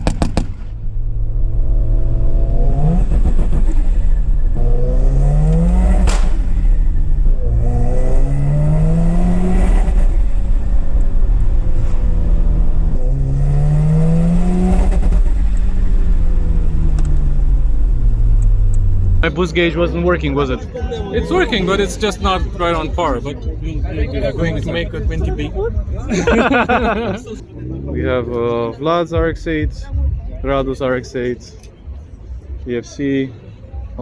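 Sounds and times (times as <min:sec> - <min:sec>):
rotary engine revving: 0:00.0 - 0:30.6.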